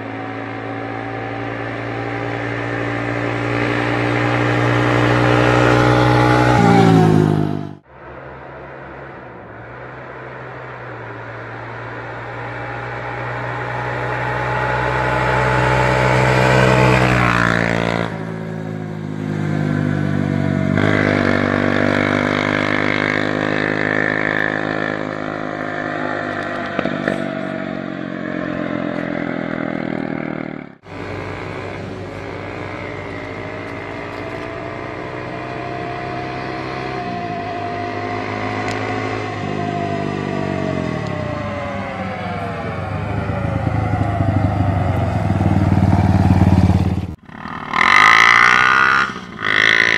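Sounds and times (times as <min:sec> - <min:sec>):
quad engine revving: 0:00.0 - 0:07.9, 0:09.6 - 0:49.9.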